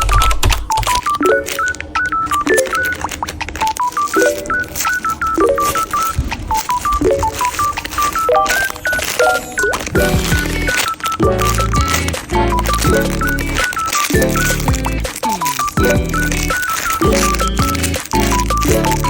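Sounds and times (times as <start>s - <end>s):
bouncy synth beeping tune: 0.0s - 19.0s
sharp clicks: 0.0s - 19.0s.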